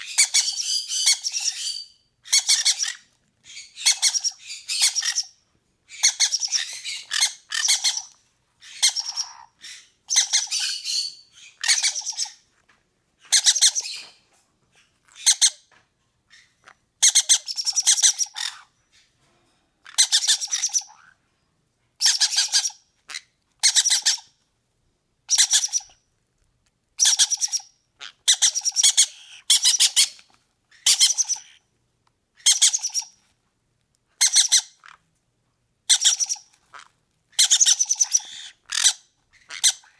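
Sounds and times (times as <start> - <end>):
parrot chicks squawking: 0.0 - 12.5, 13.2 - 14.2, 14.8 - 19.1, 19.8 - 21.2, 22.0 - 24.4, 25.3 - 26.0, 27.0 - 31.6, 32.4 - 33.2, 34.2 - 35.0, 35.9 - 39.9.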